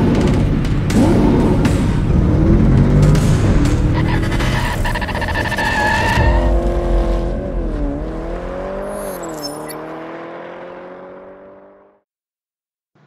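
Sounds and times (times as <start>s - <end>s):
race car engine: 0.0s - 12.0s.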